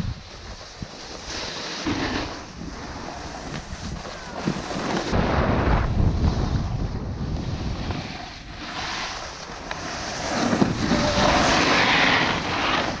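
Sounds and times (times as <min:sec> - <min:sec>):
snowboard scraping across snow: 0:00.0 - 0:13.0
wind rushing over microphone: 0:00.0 - 0:13.0.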